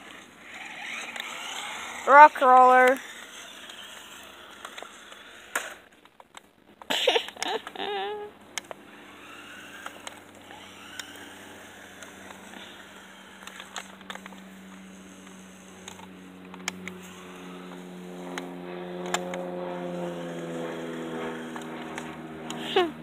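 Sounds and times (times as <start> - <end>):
motor humming: 0.0 - 5.9, 7.0 - 23.0.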